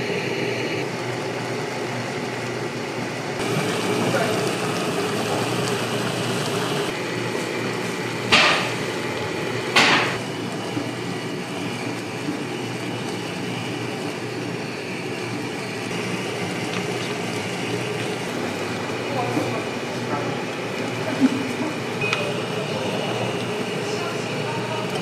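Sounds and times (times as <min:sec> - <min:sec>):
noodle cooker humming and hissing: 0:00.0 - 0:25.0.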